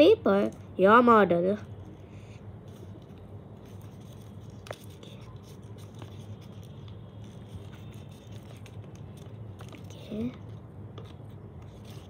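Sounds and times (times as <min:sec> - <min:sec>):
steady low hum: 0:00.0 - 0:12.0
paper being folded and creased: 0:01.7 - 0:12.0.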